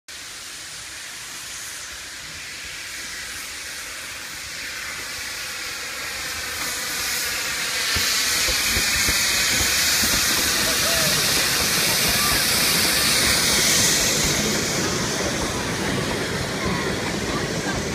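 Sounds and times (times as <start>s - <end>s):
steam locomotive hissing steam: 0.1s - 17.9s.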